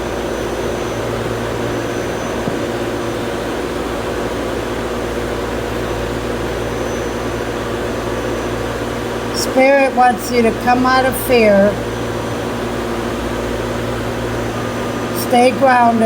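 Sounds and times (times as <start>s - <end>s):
faint high whine: 0.0s - 16.0s
low machinery hum: 0.0s - 16.0s.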